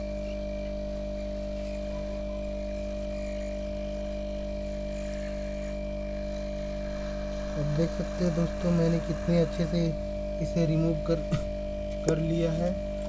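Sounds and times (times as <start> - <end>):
hot-air rework station blowing: 0.0 - 13.0.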